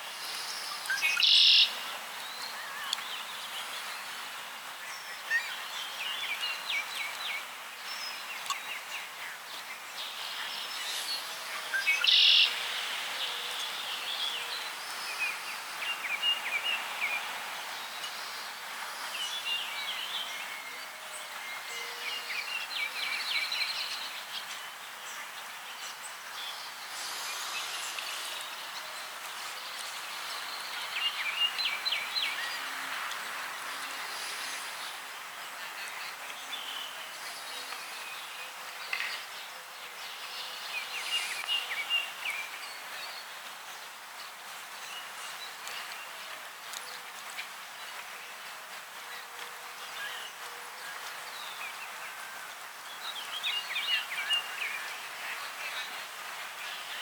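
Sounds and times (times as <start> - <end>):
small birds chirping and singing: 0.0 - 57.0
steady background hiss: 0.0 - 57.0.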